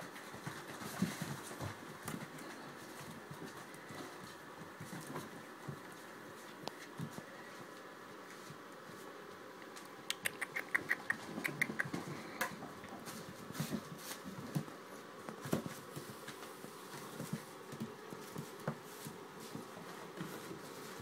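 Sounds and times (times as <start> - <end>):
puppies scuffling: 0.0 - 21.0.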